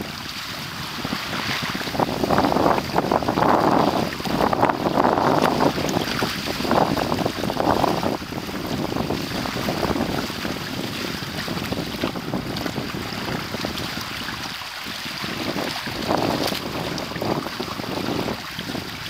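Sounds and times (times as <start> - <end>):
water splashing along hulls: 0.0 - 19.0
wind buffeting microphone: 0.0 - 19.0.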